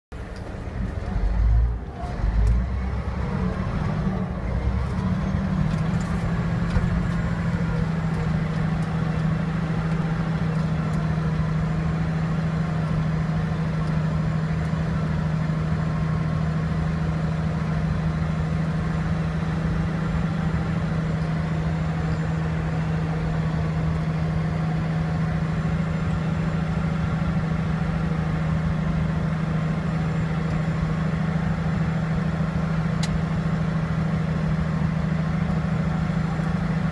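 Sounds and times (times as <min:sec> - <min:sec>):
diesel engine droning: 0:00.1 - 0:36.9.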